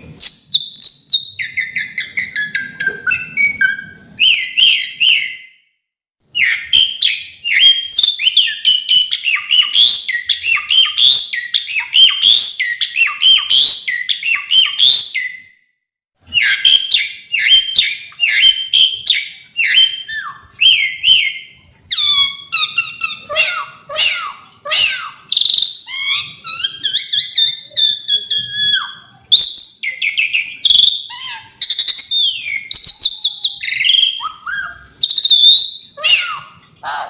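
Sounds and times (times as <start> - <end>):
starling singing: 0.0 - 5.5, 6.3 - 15.5, 16.2 - 37.0.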